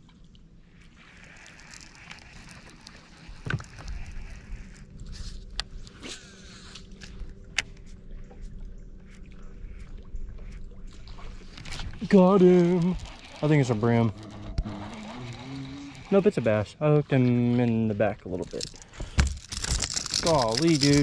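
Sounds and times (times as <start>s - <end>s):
faint steady hum: 0.0s - 21.0s
fishing line whirring off spool: 0.8s - 16.7s, 18.5s - 21.0s.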